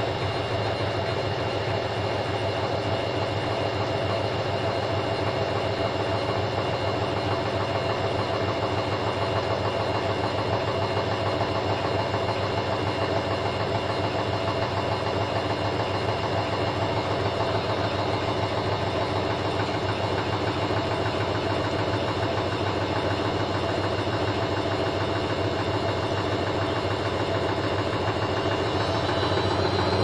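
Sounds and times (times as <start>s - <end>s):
washing machine drum spinning: 0.0s - 30.0s.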